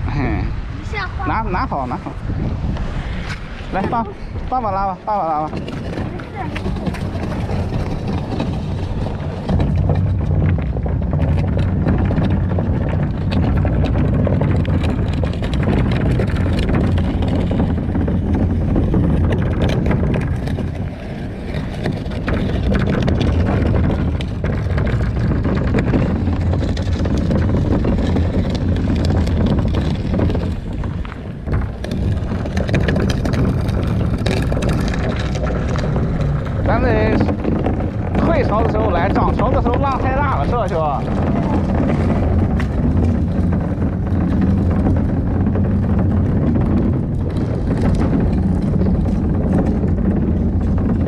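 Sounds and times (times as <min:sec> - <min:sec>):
kayak scraping over rock: 0:00.1 - 0:51.0.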